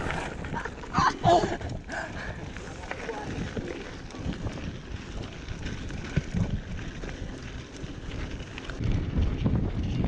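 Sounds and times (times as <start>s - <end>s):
bike clicks and rattles: 0.0s - 10.0s
tyres rolling on gravel: 0.0s - 10.0s
wind rushing over microphone: 0.0s - 10.0s.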